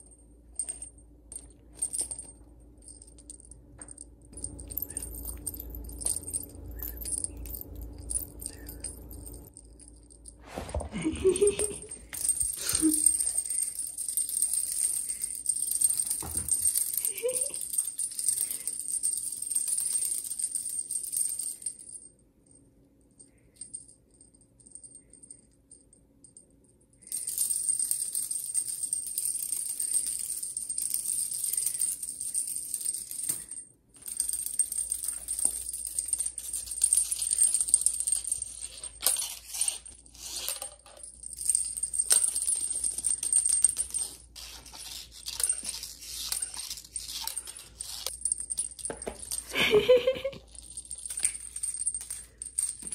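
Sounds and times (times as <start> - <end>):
cat toy bell jingling: 0.0 - 10.4, 11.1 - 22.0, 27.0 - 52.9.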